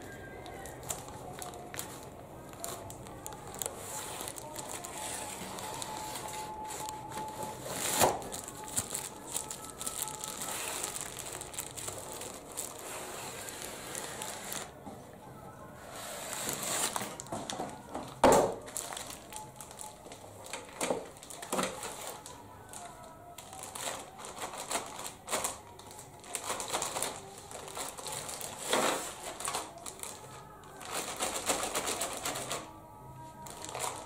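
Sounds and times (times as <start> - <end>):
plastic wrap crinkling: 0.0 - 14.8, 15.8 - 34.0.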